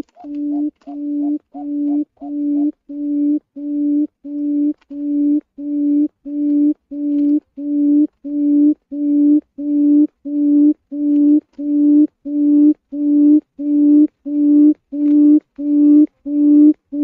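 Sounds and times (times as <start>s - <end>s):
quail lure call hooting: 0.0s - 17.0s.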